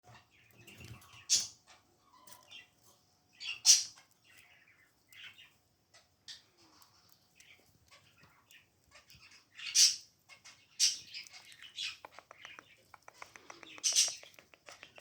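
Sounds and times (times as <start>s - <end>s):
baby budgies chirping and squawking: 0.1s - 15.0s.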